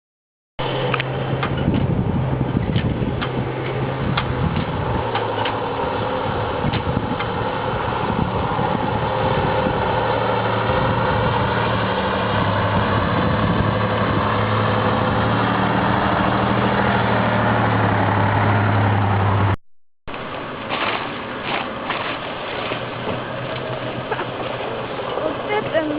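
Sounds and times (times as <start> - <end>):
heavy truck engine running: 0.6 - 25.9.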